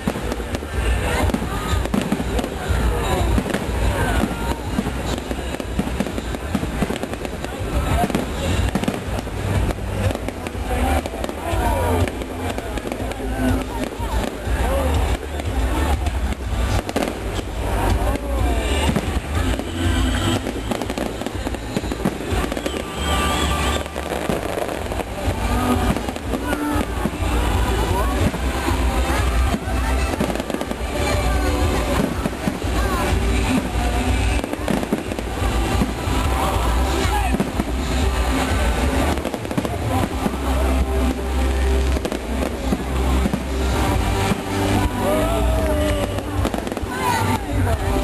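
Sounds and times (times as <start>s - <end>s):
fireworks crackling and banging: 0.0s - 48.0s
fireworks whistling: 0.0s - 48.0s.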